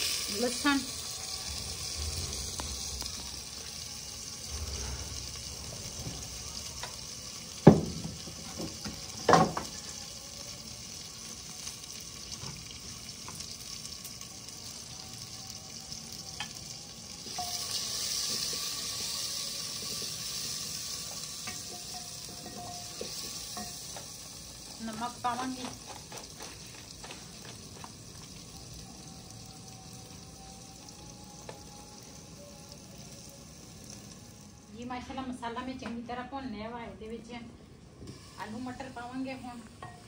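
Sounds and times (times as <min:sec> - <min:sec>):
masala sizzling in a pot: 0:00.0 - 0:40.0.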